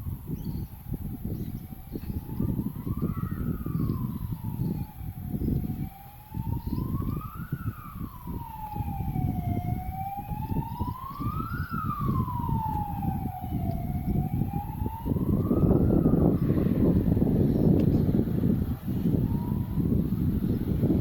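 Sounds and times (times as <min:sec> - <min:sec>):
emergency vehicle siren wailing: 0:00.0 - 0:21.0
low rumbling noise: 0:01.5 - 0:21.0.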